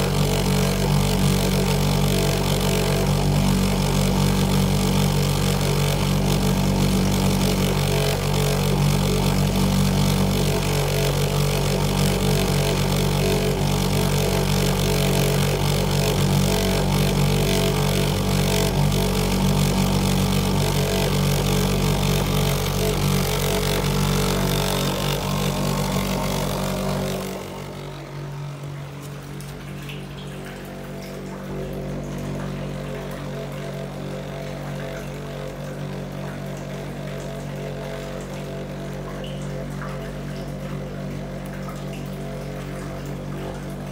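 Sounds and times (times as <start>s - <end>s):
pump humming: 0.0s - 43.9s.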